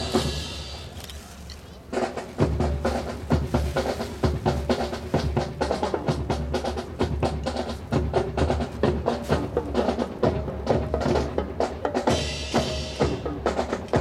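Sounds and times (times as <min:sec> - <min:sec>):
marching band music: 0:00.0 - 0:14.0.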